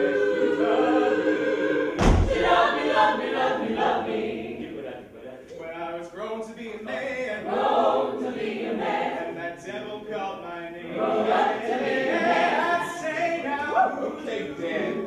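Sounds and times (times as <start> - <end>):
a cappella group singing: 0.0 - 5.9, 6.6 - 15.0.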